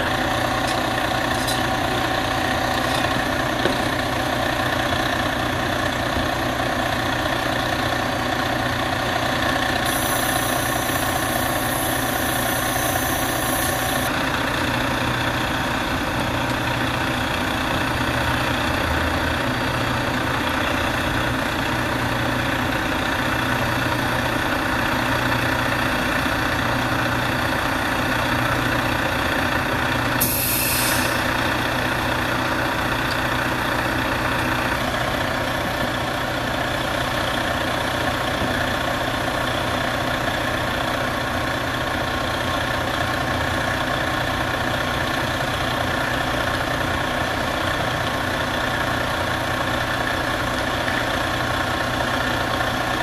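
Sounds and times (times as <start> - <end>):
heavy truck engine idling: 0.0 - 53.0.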